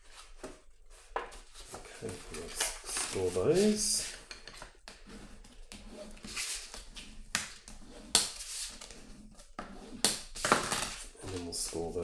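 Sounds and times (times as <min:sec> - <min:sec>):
bone folder scraping paper: 0:00.1 - 0:12.0.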